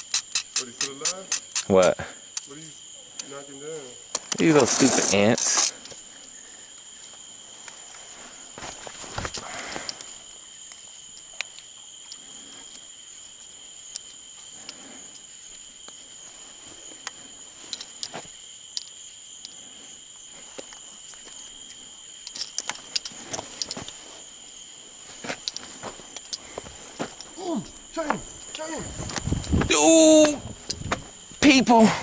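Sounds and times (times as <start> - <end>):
insects chorus: 0.0 - 32.0.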